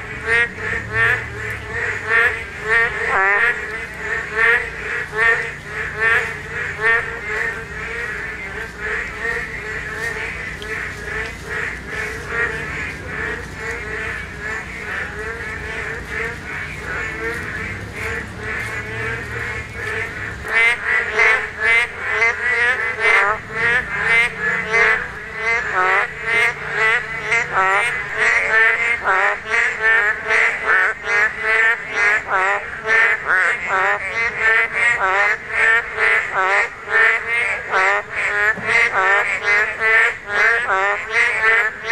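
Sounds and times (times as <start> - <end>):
frog chorus: 0.0 - 41.9.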